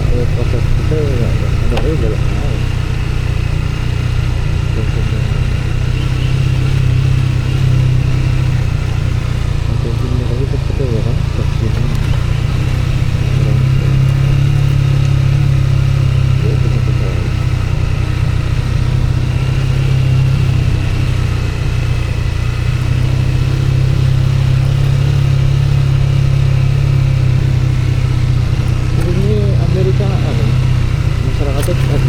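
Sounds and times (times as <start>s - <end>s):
vehicle engine and road noise: 0.0s - 32.0s.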